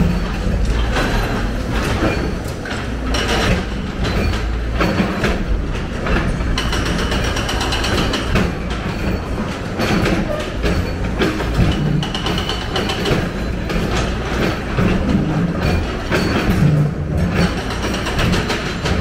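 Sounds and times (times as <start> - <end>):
diesel excavator engine running: 0.0 - 19.0
masonry and metal clatter: 0.0 - 19.0.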